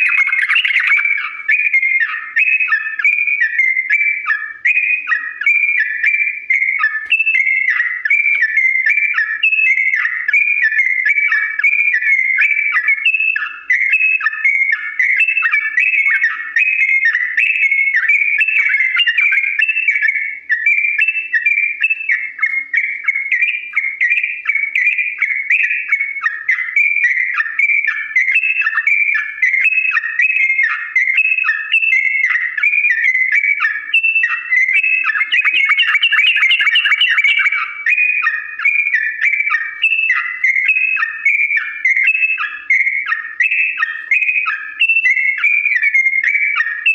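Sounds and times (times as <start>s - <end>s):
bird singing rapid whistled notes: 0.0s - 46.9s.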